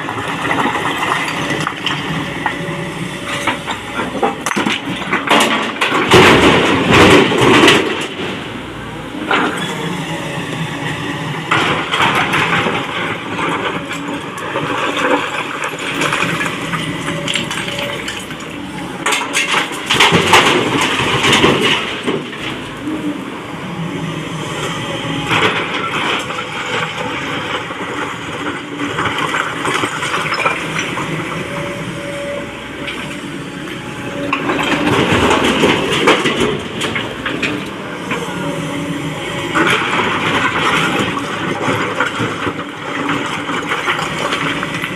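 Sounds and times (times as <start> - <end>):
excavator engine noise: 0.0 - 44.9.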